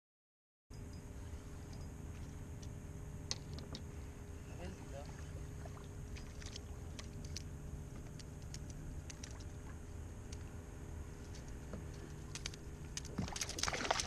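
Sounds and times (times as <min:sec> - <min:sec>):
steady low hum: 0:00.7 - 0:14.0.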